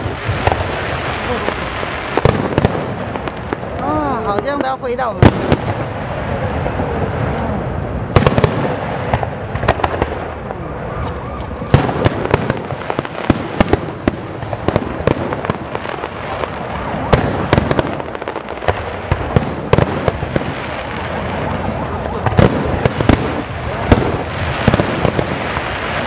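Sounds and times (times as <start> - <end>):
rumble of distant bursts: 0.0 - 26.0.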